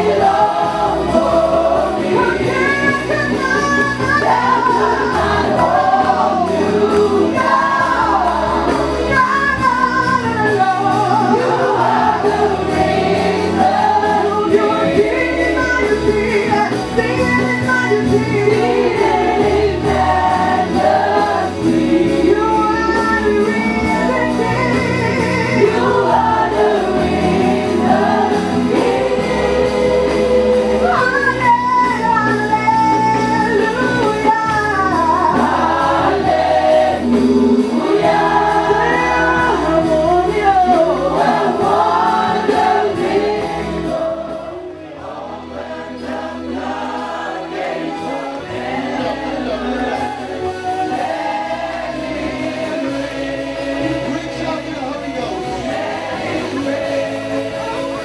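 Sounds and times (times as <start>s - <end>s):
woman singing lead: 0.0s - 53.2s
group of singers: 0.0s - 58.0s
musical accompaniment: 0.0s - 58.0s.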